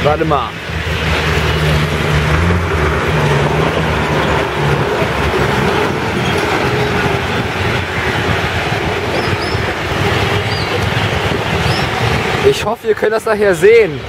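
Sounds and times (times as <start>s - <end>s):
bus engine passing by: 0.0s - 14.0s
street traffic noise: 0.0s - 14.0s.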